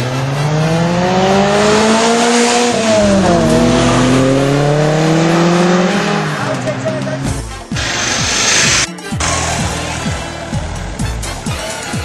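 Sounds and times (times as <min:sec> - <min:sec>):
road noise rush: 0:00.0 - 0:12.0
sports car engine accelerating: 0:00.0 - 0:12.0.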